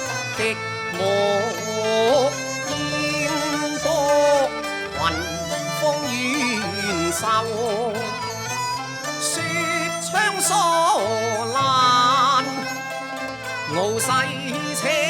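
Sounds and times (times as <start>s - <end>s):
opera instrumental ensemble: 0.0s - 15.0s.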